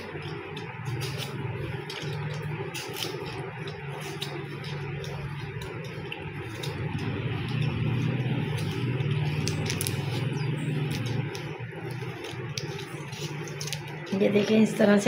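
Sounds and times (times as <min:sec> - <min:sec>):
low hum: 0:00.0 - 0:15.0
peel crackling: 0:00.0 - 0:15.0
peeler scraping mango skin: 0:00.0 - 0:15.0.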